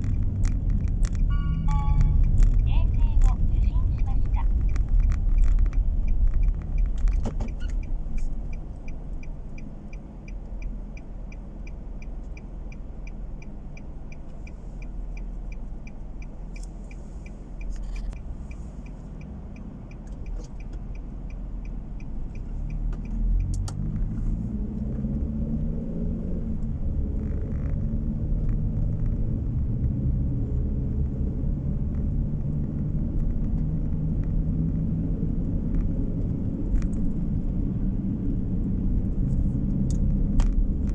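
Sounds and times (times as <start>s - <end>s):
car engine and road rumble: 0.0s - 40.9s
turn signal ticking: 0.0s - 40.9s.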